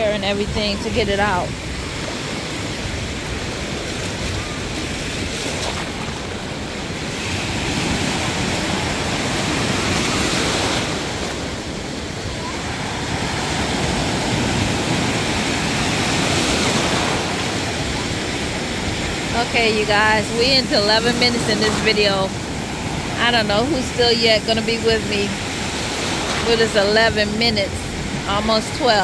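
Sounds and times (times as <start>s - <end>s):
waves breaking on beach: 0.0s - 29.0s.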